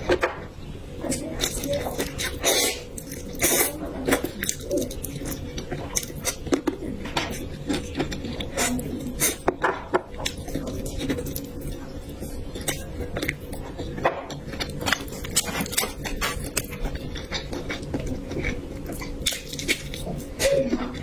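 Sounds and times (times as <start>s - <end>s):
chewing with mouth smacks: 1.0s - 21.0s.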